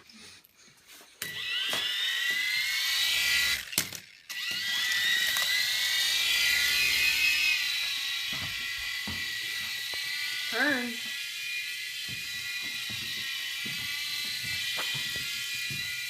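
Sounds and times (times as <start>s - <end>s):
toy helicopter motors whining: 1.2s - 16.0s.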